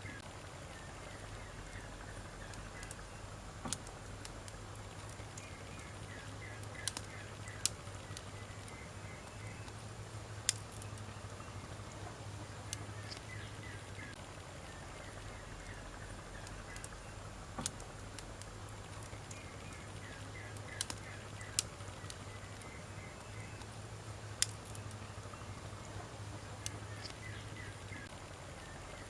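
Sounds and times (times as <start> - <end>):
faint steady hiss: 0.0 - 29.0
sharp pops from fire: 0.0 - 29.0
wood fire crackling: 0.0 - 29.0.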